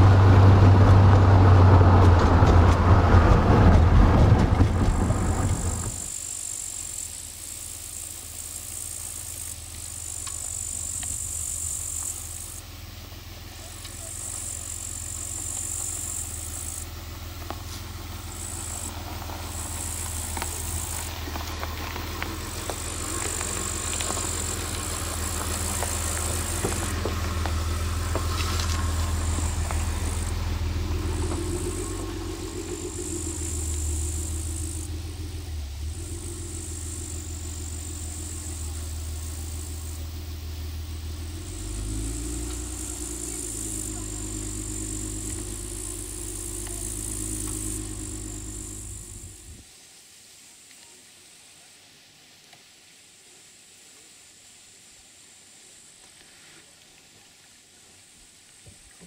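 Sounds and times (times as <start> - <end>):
car engine rumbling: 0.0 - 49.6.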